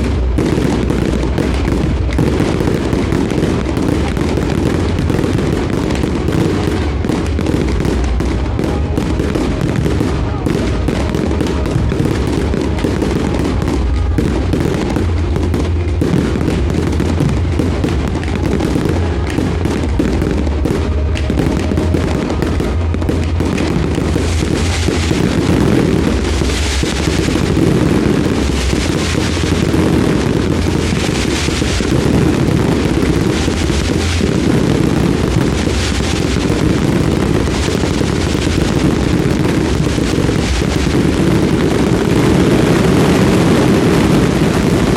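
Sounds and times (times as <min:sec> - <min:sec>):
fireworks crackling: 0:00.0 - 0:44.9
fireworks cracks and bangs: 0:00.0 - 0:44.9.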